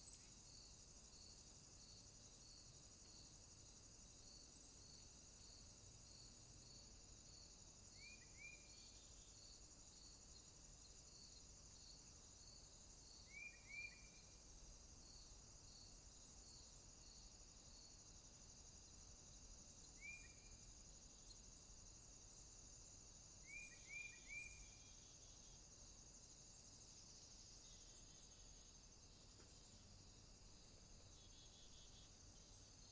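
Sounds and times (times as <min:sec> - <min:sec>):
regular insect chirp: 0:00.0 - 0:32.9.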